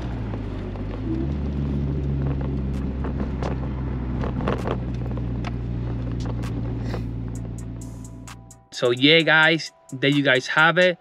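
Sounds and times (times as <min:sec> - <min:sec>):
car engine running: 0:00.0 - 0:10.2.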